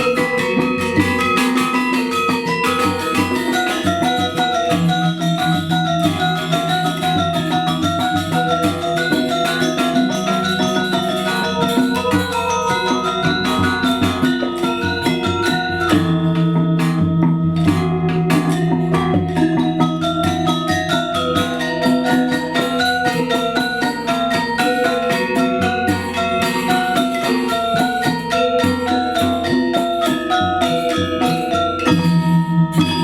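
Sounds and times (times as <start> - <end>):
gamelan music: 0.0 - 33.0.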